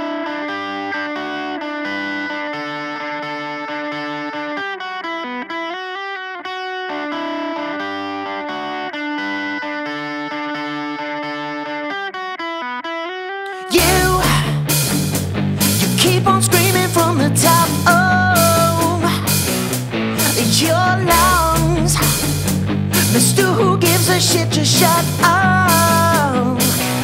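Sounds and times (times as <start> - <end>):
electric guitar riff: 0.0 - 27.0.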